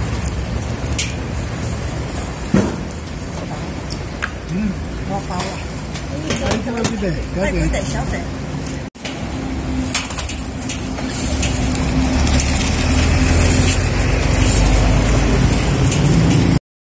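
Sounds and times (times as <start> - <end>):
vehicle engine rumbling: 0.0 - 16.6.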